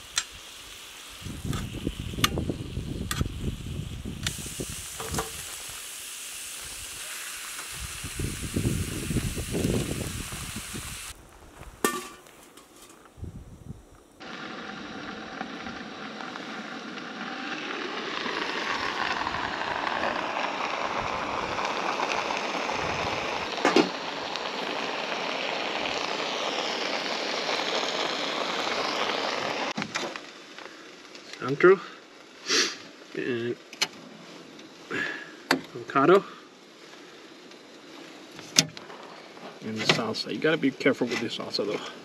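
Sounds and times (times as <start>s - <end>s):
food sizzling on a griddle: 0.0s - 13.3s, 14.2s - 42.0s.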